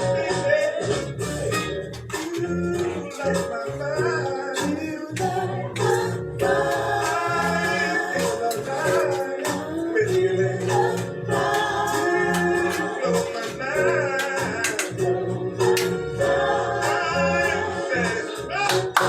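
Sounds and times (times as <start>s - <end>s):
music with singing voices: 0.0s - 19.0s.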